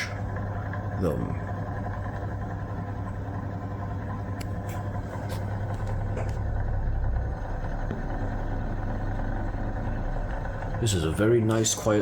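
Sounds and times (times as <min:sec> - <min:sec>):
table fan motor hum: 0:00.0 - 0:12.0.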